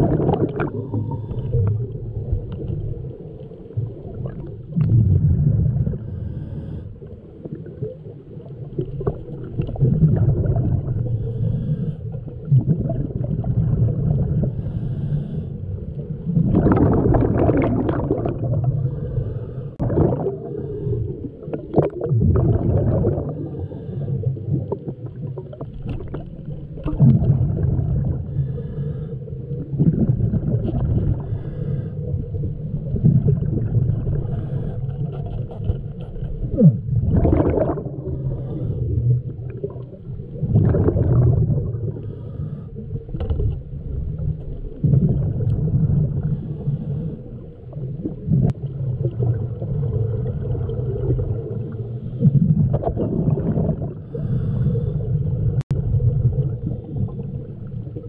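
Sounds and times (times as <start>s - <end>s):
water rushing underwater: 0.0s - 58.0s.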